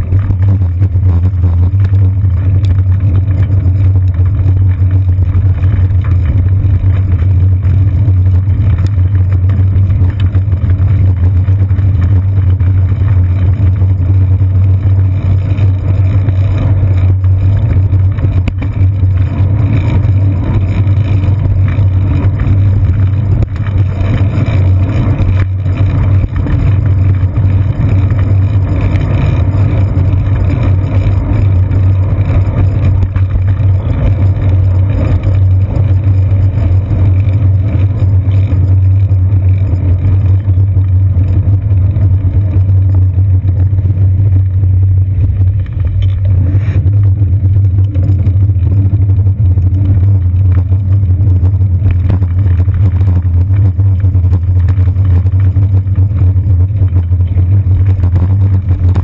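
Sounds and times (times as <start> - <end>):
bicycle road vibration rumble: 0.0 - 59.0.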